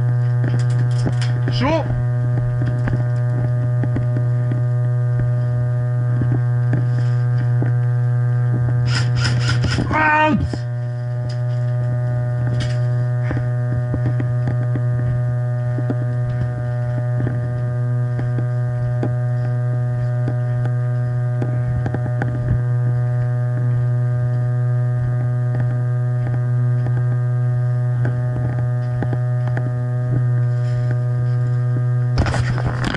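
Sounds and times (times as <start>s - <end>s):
loud electrical hum: 0.0s - 32.9s.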